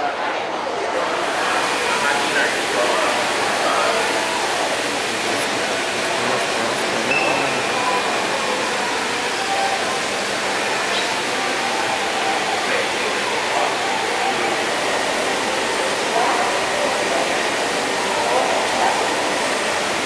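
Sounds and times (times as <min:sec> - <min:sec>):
faint voices: 0:00.0 - 0:20.0
water rushing down fountain wall: 0:00.8 - 0:20.0.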